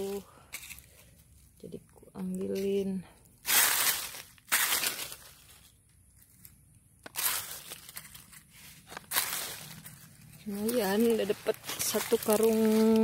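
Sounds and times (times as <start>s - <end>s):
dry leaves crunching: 0.0s - 1.6s, 2.2s - 13.0s.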